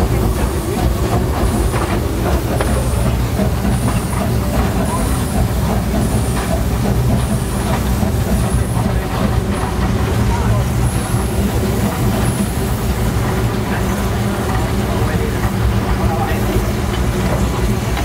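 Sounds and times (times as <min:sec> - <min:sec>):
steam locomotive rumble: 0:00.0 - 0:18.0
wheels clicking over rails: 0:00.0 - 0:18.0.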